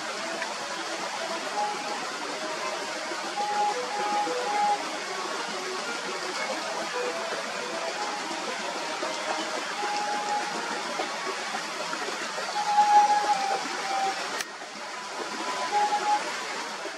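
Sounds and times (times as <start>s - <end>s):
stream burbling over stones: 0.0s - 16.9s.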